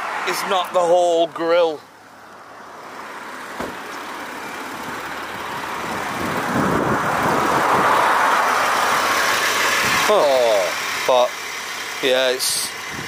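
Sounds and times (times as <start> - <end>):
vehicle passing: 0.0 - 11.0.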